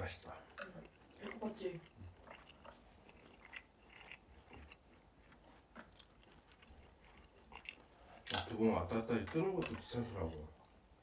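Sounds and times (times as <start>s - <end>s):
chewing and eating: 0.0s - 11.0s.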